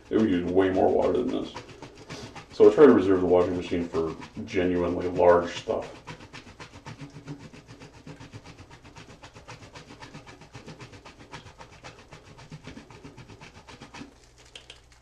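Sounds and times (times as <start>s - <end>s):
soap grated rasping: 0.0s - 15.0s.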